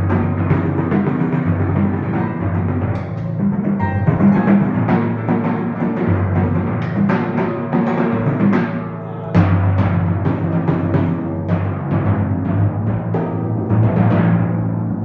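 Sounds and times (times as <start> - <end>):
grand piano playing: 0.0 - 14.1
timpani drum notes: 0.0 - 15.0.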